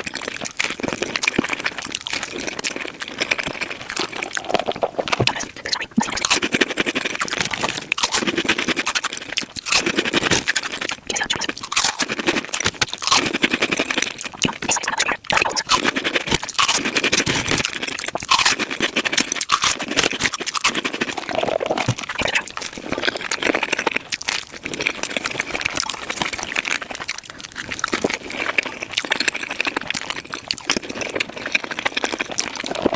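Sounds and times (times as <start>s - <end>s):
sped-up chewing and crunching: 0.0s - 32.9s.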